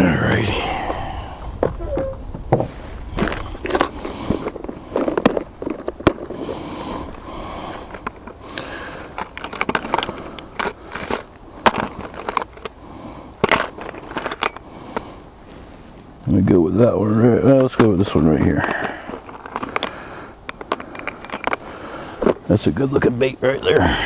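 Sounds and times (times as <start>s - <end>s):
metal lures clinking on plastic: 3.2s - 15.6s, 16.8s - 24.0s.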